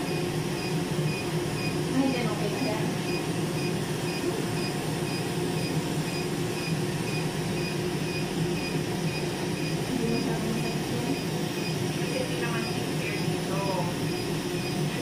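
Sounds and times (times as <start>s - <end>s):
machine cooling hum: 0.0s - 15.0s.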